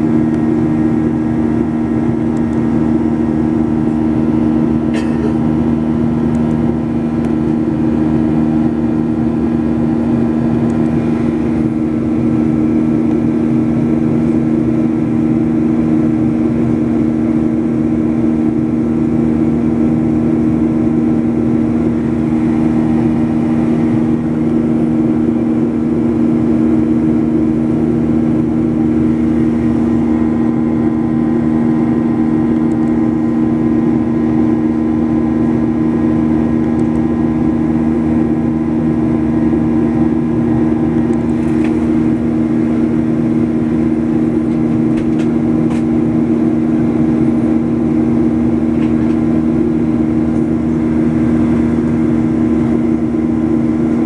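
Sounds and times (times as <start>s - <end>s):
jet cabin engine drone: 0.0s - 54.0s.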